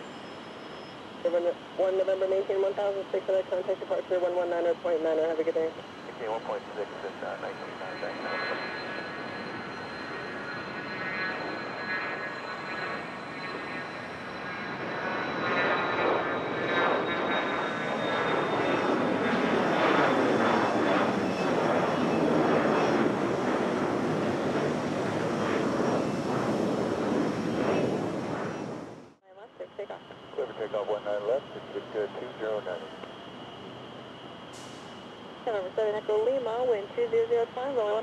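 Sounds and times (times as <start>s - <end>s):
jet passing with high whine: 0.0s - 38.0s.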